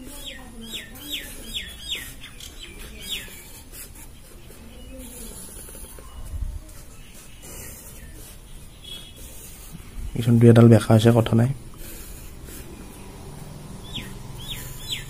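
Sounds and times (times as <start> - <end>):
bird chirping: 0.0 - 11.2, 11.9 - 15.0.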